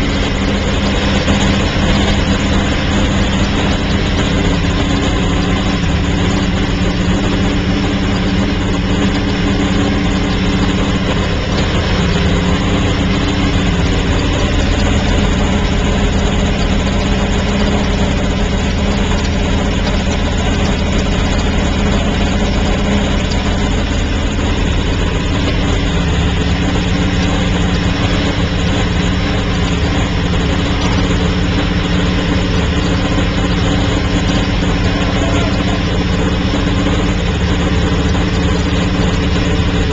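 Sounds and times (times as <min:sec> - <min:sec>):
racing engine idling loudly: 0:00.0 - 0:39.9.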